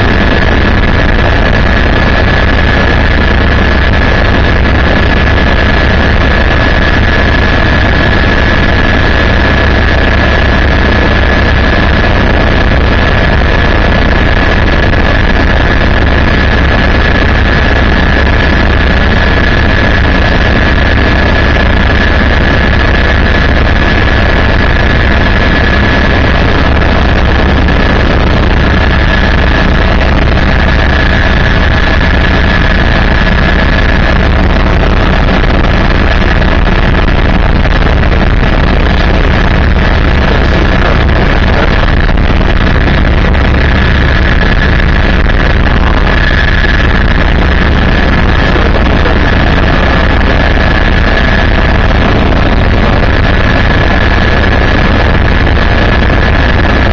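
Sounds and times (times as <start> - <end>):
constant high whine: 0.0 - 56.9
helicopter rotor and engine drone: 0.0 - 56.9.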